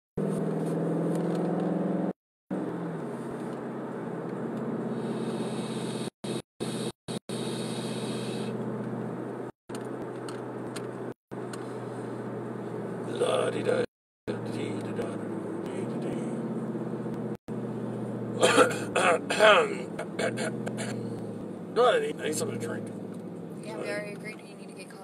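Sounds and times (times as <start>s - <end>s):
car engine and road noise: 0.2s - 25.0s.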